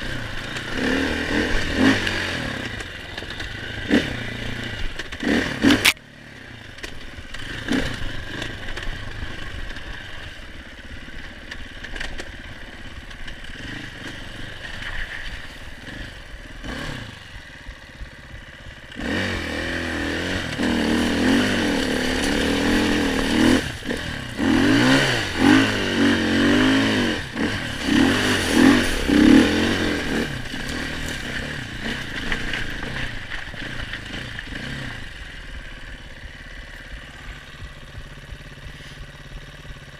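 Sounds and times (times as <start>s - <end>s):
engine knocks and clatters: 0.0s - 39.9s
motorcycle engine revving: 0.0s - 39.9s.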